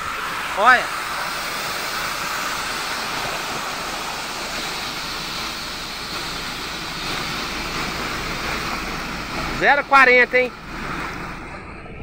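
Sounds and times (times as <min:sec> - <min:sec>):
floodwater rushing across road: 0:00.0 - 0:12.0.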